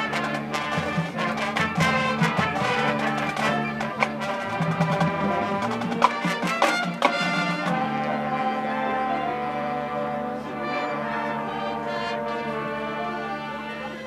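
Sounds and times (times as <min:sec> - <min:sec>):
brass section sustained chord: 0:00.0 - 0:14.0.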